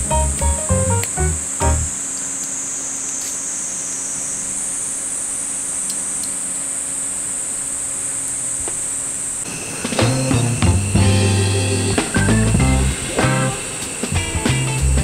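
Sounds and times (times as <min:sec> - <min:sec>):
high-pitched insect drone: 0:01.2 - 0:14.9.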